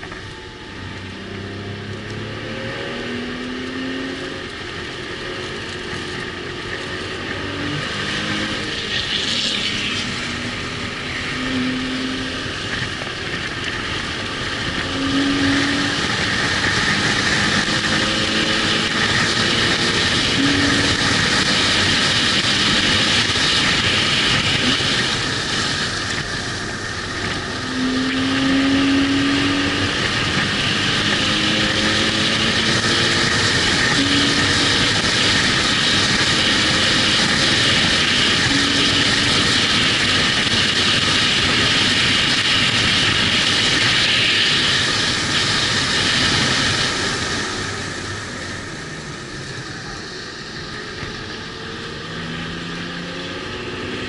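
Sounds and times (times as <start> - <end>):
race car engine accelerating: 0.0 - 54.0
wind and road noise: 0.0 - 54.0.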